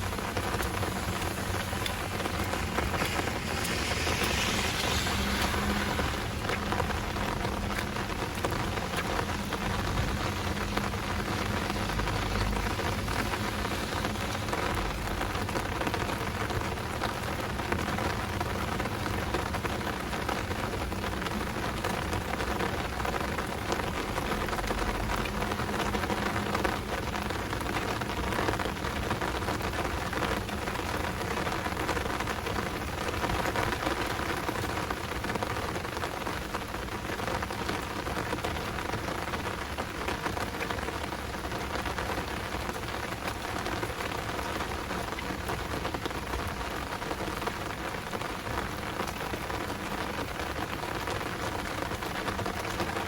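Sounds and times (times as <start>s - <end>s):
heavy rain hiss: 0.0s - 53.0s.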